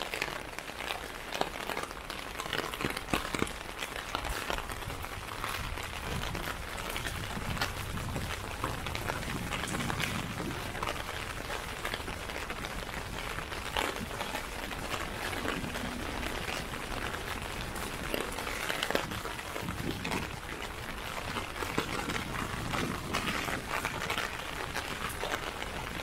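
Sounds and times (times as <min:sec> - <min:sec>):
rain on plastic umbrella: 0:00.0 - 0:26.0.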